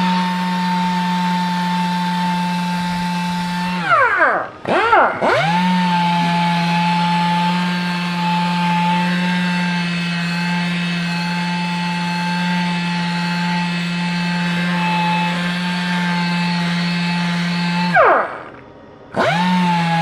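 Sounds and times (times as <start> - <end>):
air polisher whining: 0.0 - 20.0.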